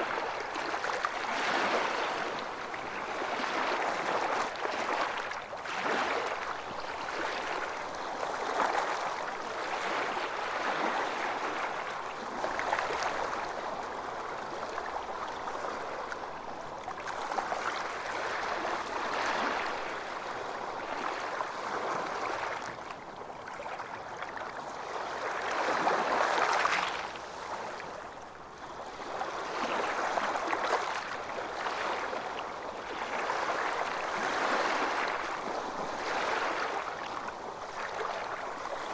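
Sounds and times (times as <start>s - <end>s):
waves lapping against a boat: 0.0s - 38.9s.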